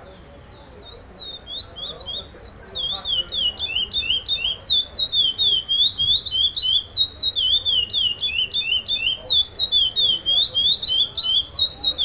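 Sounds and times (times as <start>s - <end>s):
finch singing whistled notes: 0.4s - 12.0s.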